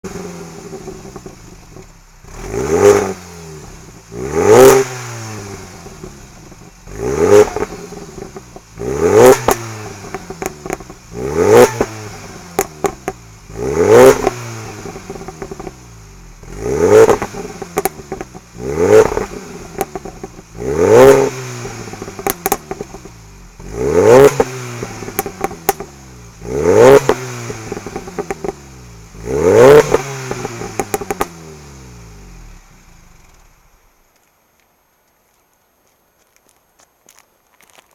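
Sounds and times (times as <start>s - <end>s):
car engine revving: 0.0s - 33.8s
exhaust crackles and pops: 0.1s - 31.4s, 32.4s - 37.9s.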